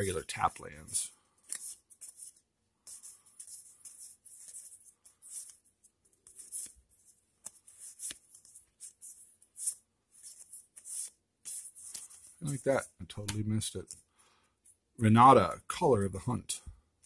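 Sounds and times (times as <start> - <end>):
cards sliding papery swishes: 0.0 - 14.0.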